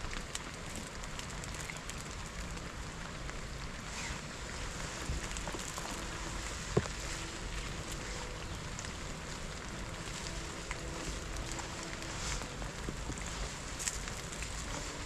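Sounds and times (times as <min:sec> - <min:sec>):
small crackles: 0:00.0 - 0:15.0
steady rain falling: 0:00.0 - 0:15.0.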